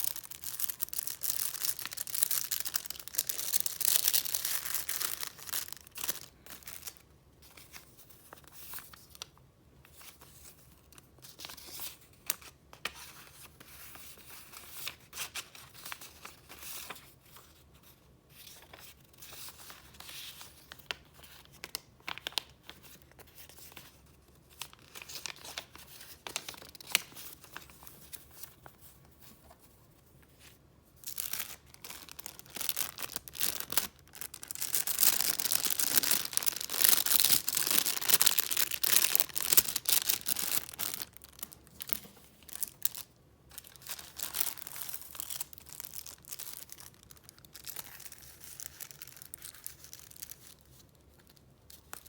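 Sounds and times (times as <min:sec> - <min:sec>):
paper rustling and crinkling: 0:09.9 - 0:52.0.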